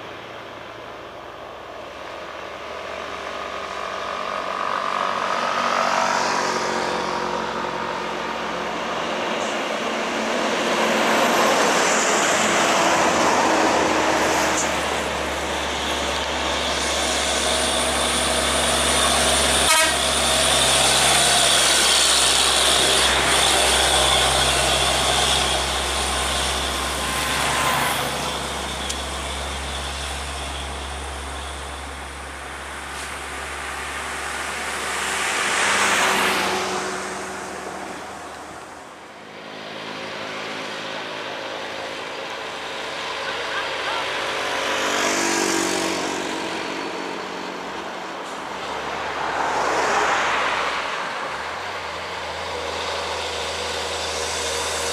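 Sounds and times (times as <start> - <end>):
heavy trucks passing: 0.0 - 54.9.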